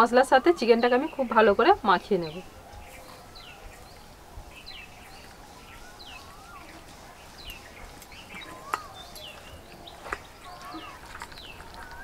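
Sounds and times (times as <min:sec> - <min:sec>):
birds chirping: 0:00.0 - 0:12.0
faint background noise: 0:00.0 - 0:12.0.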